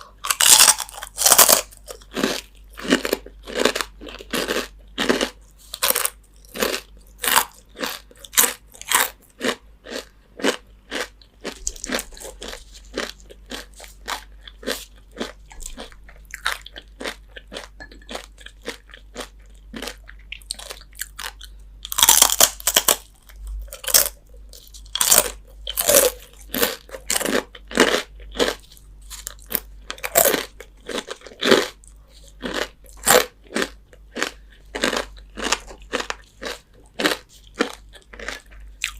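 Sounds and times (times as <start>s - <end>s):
crunchy chewing: 0.0s - 38.9s.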